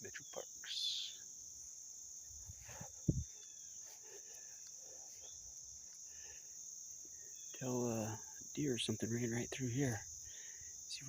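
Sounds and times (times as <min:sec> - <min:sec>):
crickets and insects chorus: 0:00.0 - 0:11.0
faint chirps: 0:00.0 - 0:11.0.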